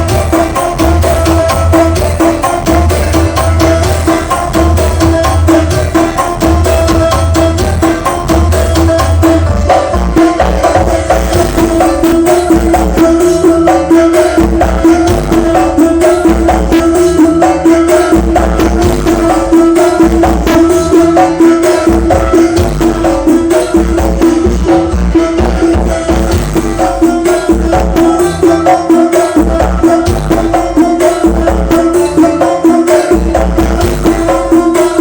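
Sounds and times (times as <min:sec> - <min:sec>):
hand drum and tambourine beat: 0:00.0 - 0:35.0
heavy bass: 0:00.0 - 0:35.0.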